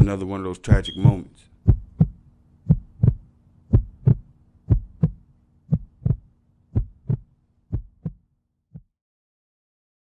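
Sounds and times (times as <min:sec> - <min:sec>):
heartbeat thumps: 0:00.0 - 0:08.9.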